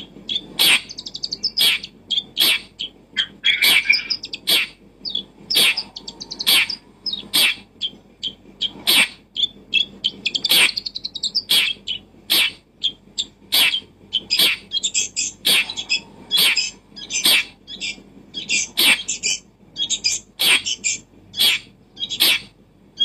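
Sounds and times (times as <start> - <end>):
bird chirping and trilling: 0.0 - 23.0
bird clicking calls: 0.3 - 12.6, 13.2 - 22.5.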